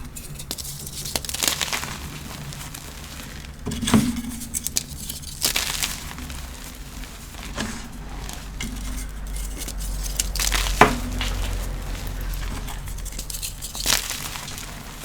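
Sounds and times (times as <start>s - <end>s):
chalk blocks being crushed: 0.0s - 15.0s.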